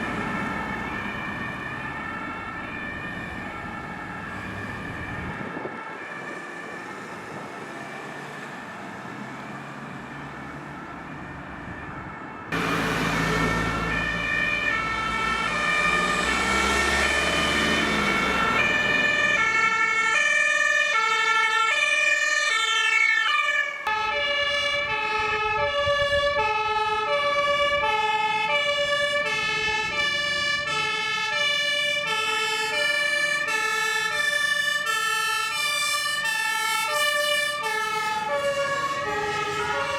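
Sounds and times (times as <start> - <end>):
two-tone sirens: 0.0 - 39.9
vehicle engine and road noise: 0.0 - 39.9.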